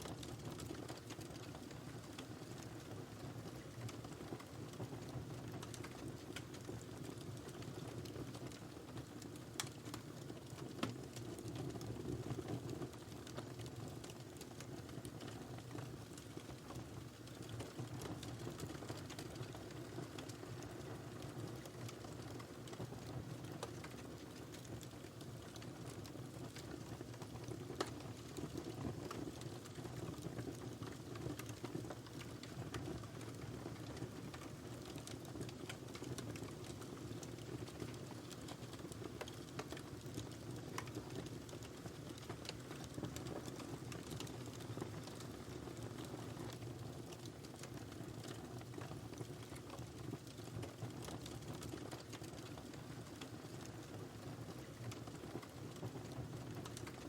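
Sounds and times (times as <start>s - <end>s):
burning wood crackling and popping: 0.0s - 57.0s.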